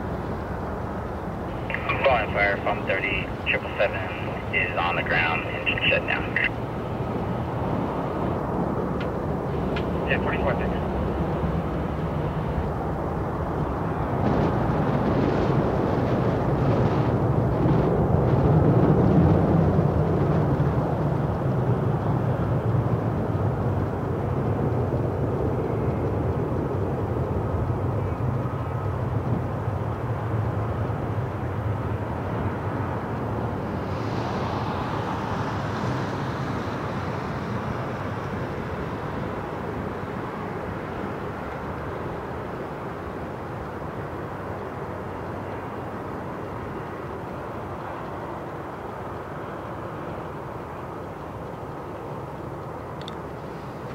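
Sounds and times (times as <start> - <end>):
distant jet aircraft rumble: 0.0 - 53.9.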